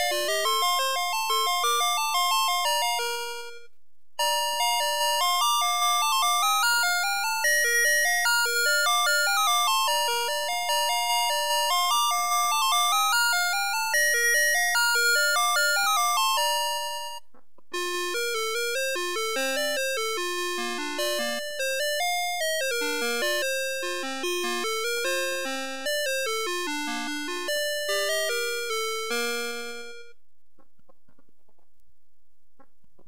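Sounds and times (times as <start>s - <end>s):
toy playing beeping tune: 0.0s - 17.2s, 17.8s - 30.2s.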